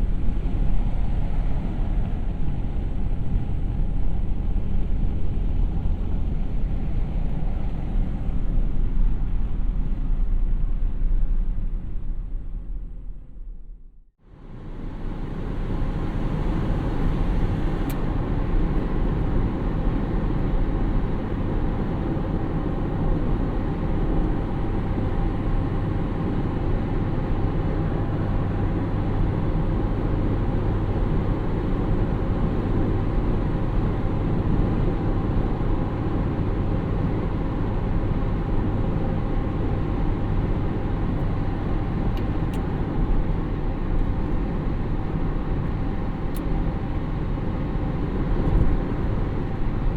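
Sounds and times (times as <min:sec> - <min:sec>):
road noise rush: 0:00.0 - 0:13.5, 0:14.2 - 0:49.9
car engine hum: 0:00.0 - 0:49.9.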